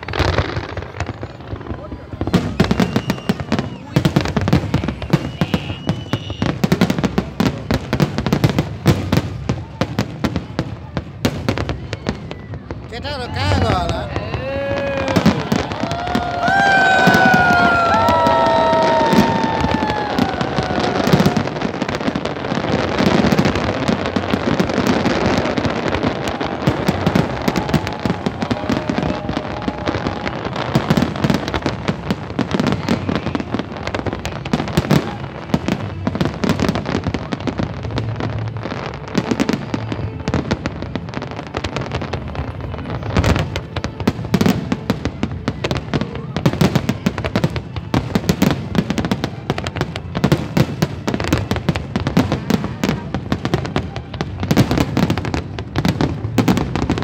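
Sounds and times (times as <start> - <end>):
fireworks bangs: 0.0 - 57.0
fireworks crackling and popping: 0.0 - 57.0.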